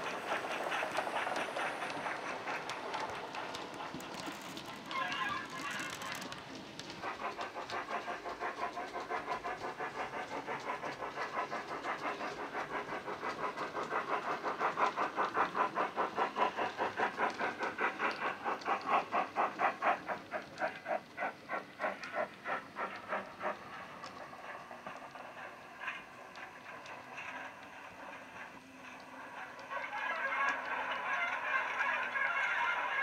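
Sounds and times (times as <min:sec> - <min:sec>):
model steam locomotive chuffing: 0:00.0 - 0:33.0.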